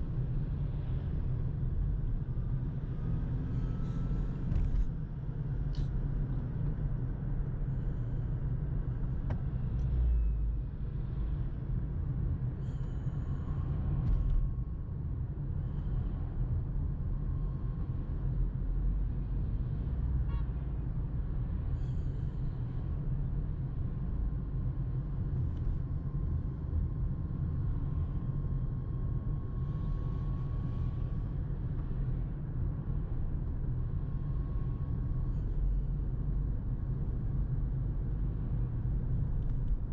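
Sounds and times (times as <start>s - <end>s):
car rumbling: 0.0s - 39.9s.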